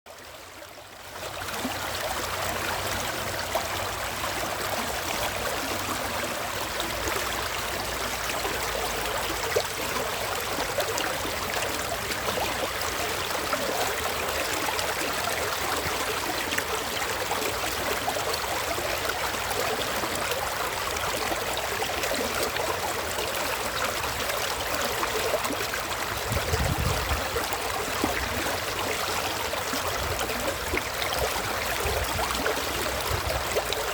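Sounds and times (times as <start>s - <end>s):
stream water flowing: 0.1s - 33.9s.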